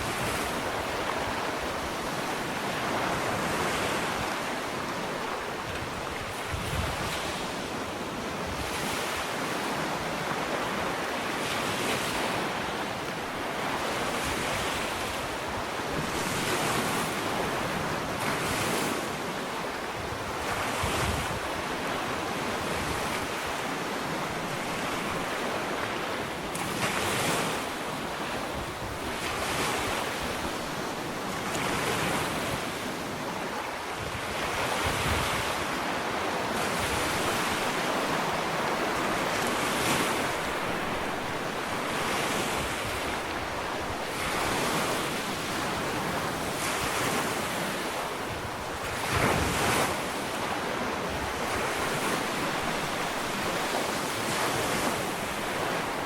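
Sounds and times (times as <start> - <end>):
small waves washing up a beach: 0.0 - 56.0.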